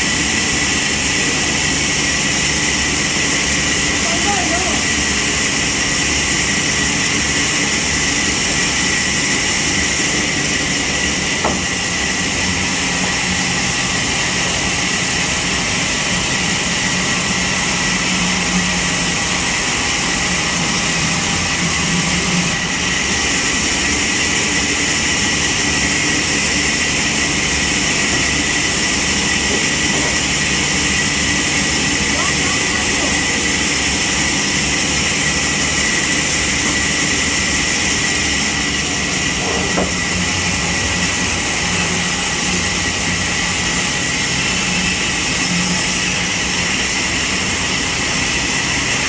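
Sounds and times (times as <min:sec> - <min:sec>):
sawmill machinery whining: 0:00.0 - 0:49.0.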